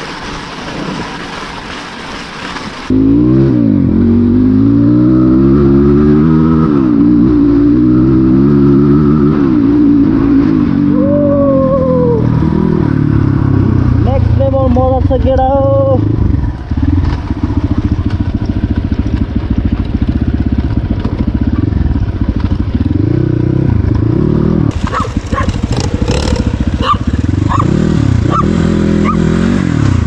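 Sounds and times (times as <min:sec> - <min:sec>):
dirt bike engine revving: 0:02.9 - 0:30.0.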